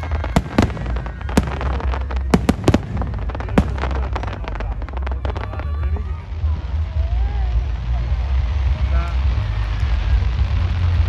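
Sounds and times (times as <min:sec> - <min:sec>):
fireworks loud sharp bangs: 0:00.0 - 0:11.0.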